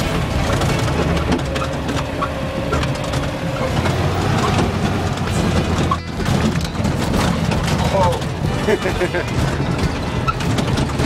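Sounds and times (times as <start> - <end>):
engine drone: 0.0 - 11.0
vehicle body rattling and knocking: 0.0 - 11.0.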